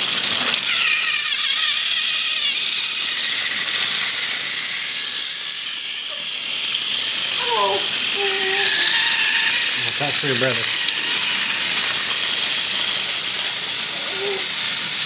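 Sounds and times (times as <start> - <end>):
toy train motors whirring: 0.0 - 15.0.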